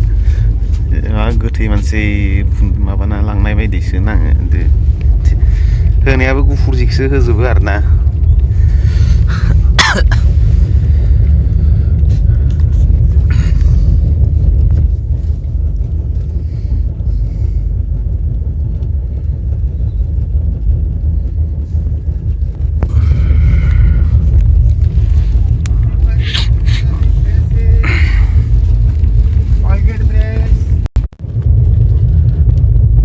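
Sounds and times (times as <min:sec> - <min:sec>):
train rumbling: 0:00.0 - 0:33.0.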